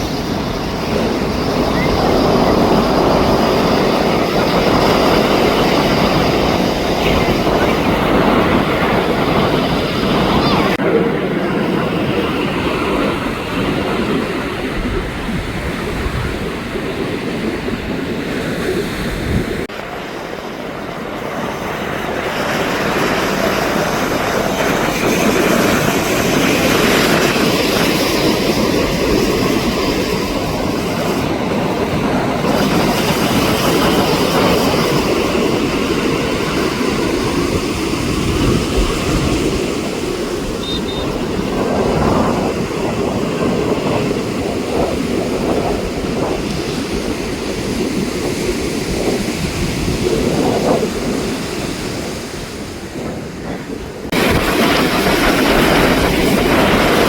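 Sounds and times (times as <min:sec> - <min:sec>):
jet airliner flying over: 0:00.0 - 0:57.0.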